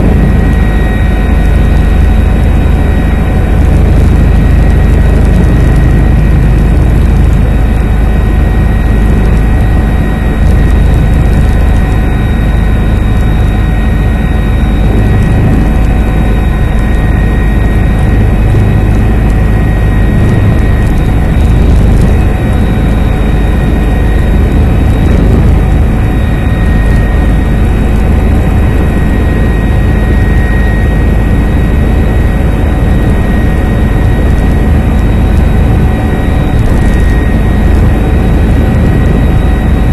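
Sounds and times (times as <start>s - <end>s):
helicopter engine and rotor: 0.0s - 39.9s
high whine: 0.0s - 39.9s.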